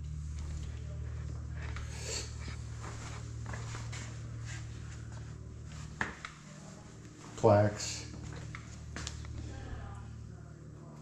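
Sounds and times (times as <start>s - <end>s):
low steady hum: 0.0s - 11.0s
soft footsteps: 0.1s - 10.3s.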